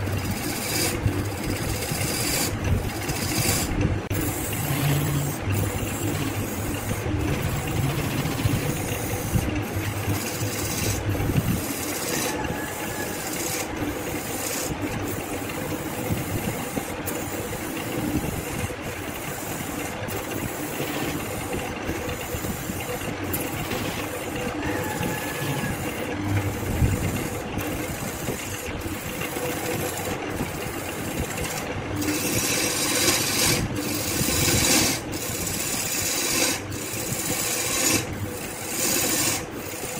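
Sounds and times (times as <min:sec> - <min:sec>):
lathe running hum: 0:00.0 - 0:39.9
turning tool scraping resin: 0:00.0 - 0:39.9.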